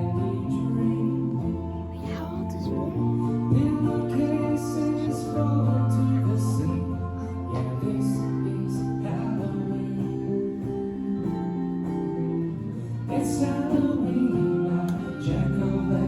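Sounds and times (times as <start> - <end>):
person singing: 0.0 - 12.0, 12.9 - 16.0
guitar: 0.0 - 16.0.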